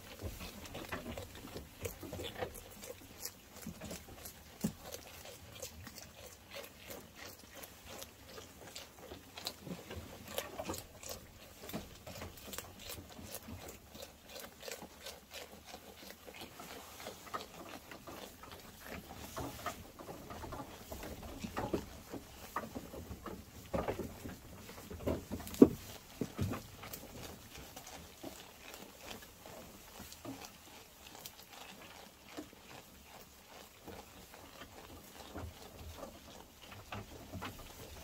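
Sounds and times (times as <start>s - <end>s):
sheep chewing grass: 0.0s - 38.0s.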